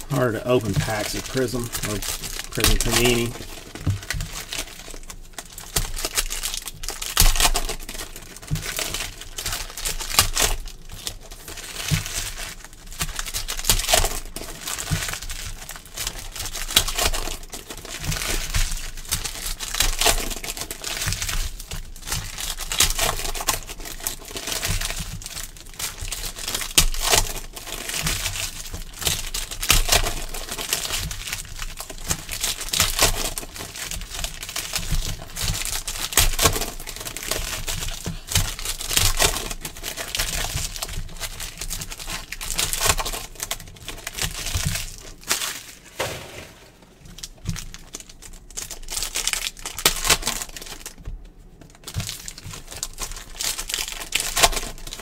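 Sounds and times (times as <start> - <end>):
foil wrappers crinkling and tearing: 0.0 - 55.0.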